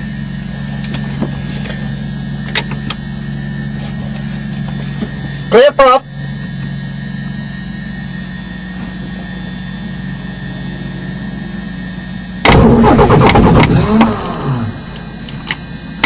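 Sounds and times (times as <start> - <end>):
aircraft engine cranking and firing: 0.0 - 16.0
cockpit hum: 0.0 - 16.0.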